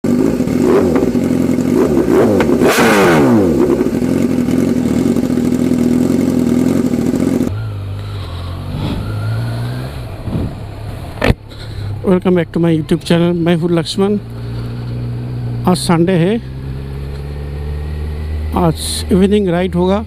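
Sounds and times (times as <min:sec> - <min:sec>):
engine hum: 0:00.0 - 0:20.0
motorcycles passing at speed: 0:00.1 - 0:11.2, 0:14.1 - 0:19.2.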